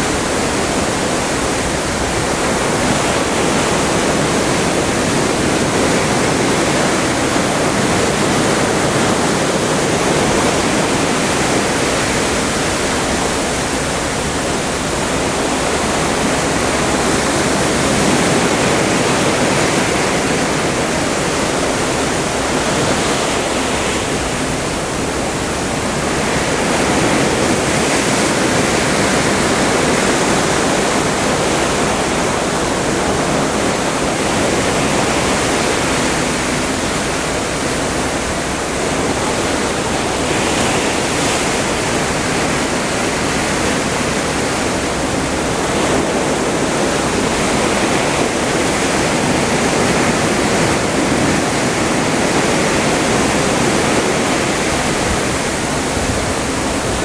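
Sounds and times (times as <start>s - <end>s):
ocean water rushing along ship: 0.0s - 57.0s.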